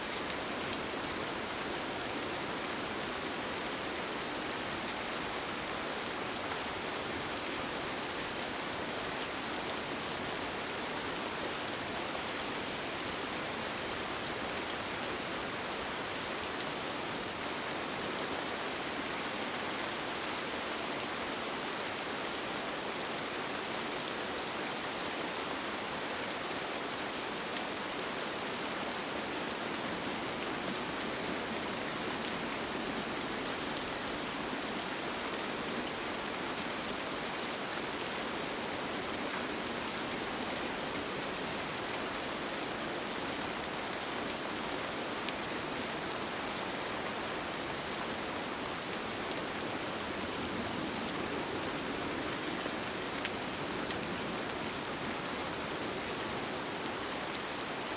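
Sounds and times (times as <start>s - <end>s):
rain falling on a tent: 0.0s - 57.9s.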